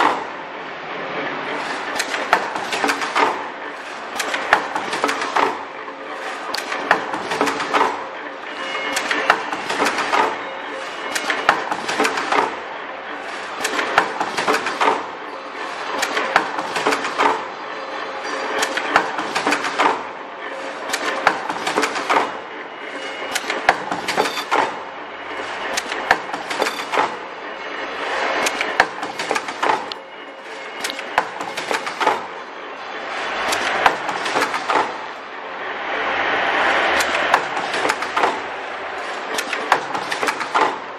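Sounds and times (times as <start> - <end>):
machine clacking and clicking: 0.0 - 40.9.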